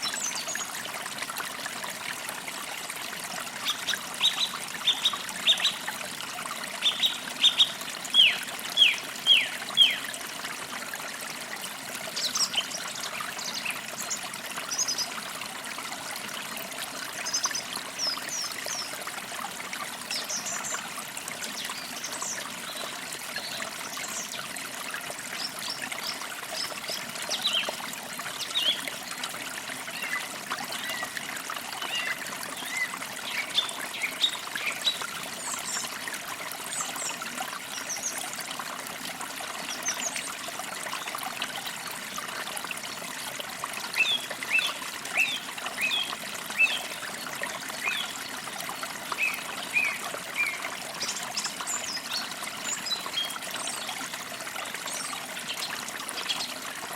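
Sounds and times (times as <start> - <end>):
creek water flowing over stones: 0.0 - 56.9.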